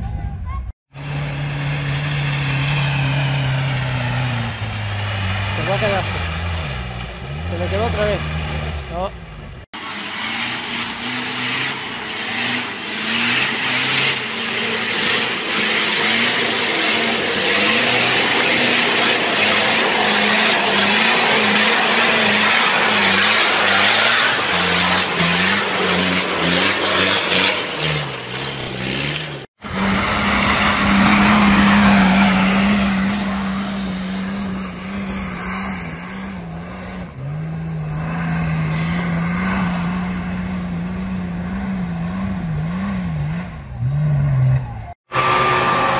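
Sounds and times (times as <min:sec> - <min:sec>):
off-road engines revving: 0:00.0 - 0:45.9.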